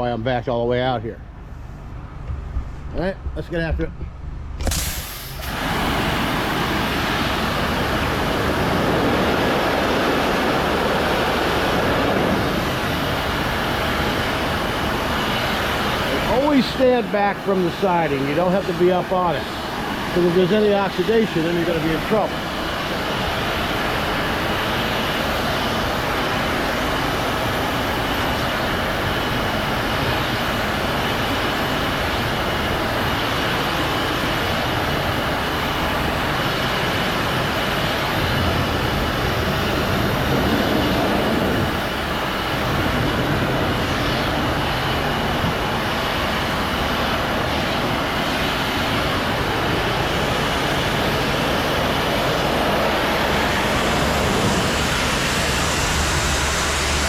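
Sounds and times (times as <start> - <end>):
thin steady whine: 0.0 - 57.0
pressure washer water jet hissing: 4.6 - 57.0.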